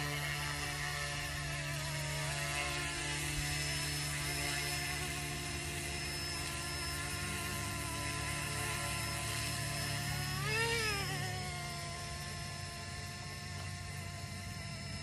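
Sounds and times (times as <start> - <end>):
rc helicopter rotor whine: 0.0 - 15.0.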